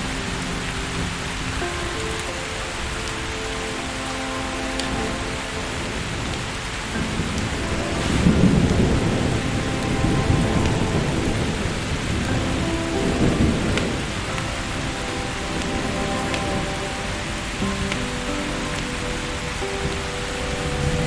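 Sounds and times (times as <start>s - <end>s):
steady rain falling: 0.0s - 21.0s
thunder rumbling: 0.0s - 21.0s.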